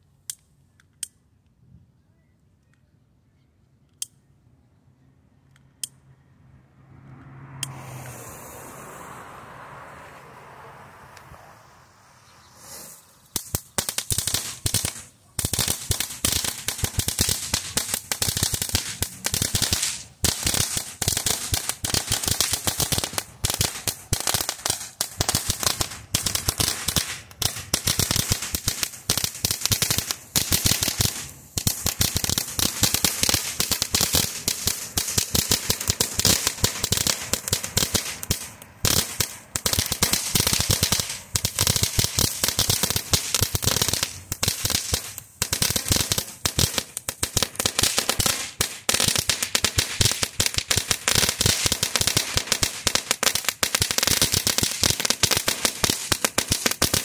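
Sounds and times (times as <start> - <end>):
firework crackling: 7.8 - 57.0.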